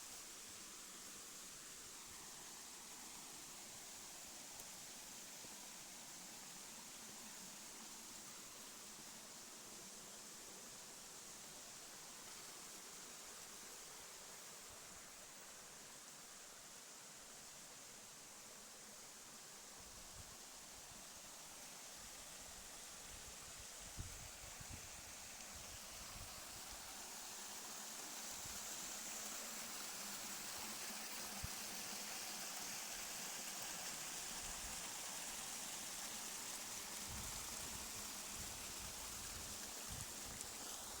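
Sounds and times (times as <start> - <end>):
rushing hiss of outdoor ambience: 0.0 - 41.0.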